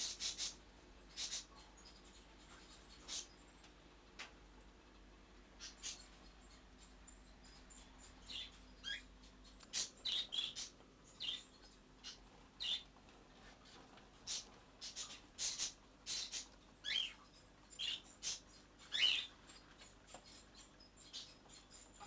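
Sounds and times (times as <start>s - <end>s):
small animals chirping and squeaking: 0.0s - 3.7s, 5.4s - 22.0s.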